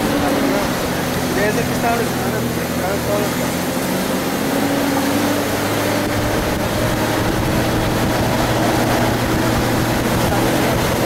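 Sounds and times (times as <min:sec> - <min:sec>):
road and motion hiss: 0:00.0 - 0:11.0
vehicle engine running: 0:00.0 - 0:11.0.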